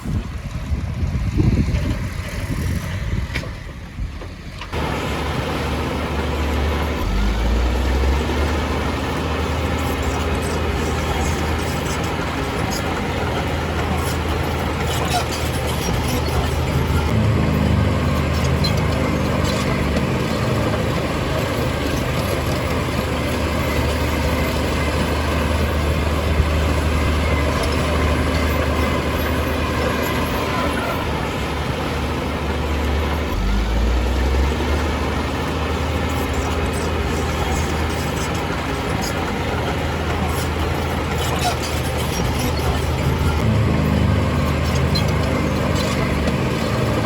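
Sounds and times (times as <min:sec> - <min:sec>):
heavy diesel machinery engine drone: 0:00.0 - 0:47.0.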